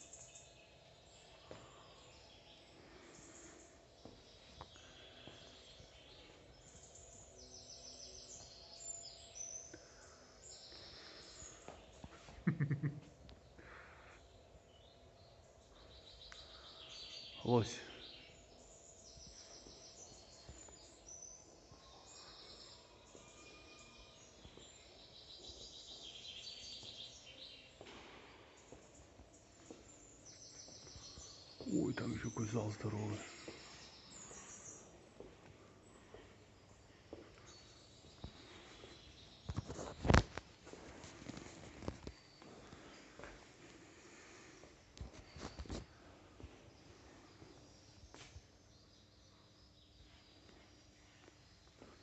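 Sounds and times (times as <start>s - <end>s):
faint birdsong chirps and trills: 0.0s - 52.0s.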